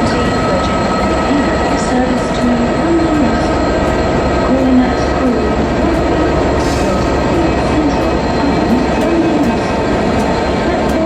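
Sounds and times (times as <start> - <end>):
locomotive engine drone: 0.0 - 11.0
steady whining tones: 0.0 - 11.0.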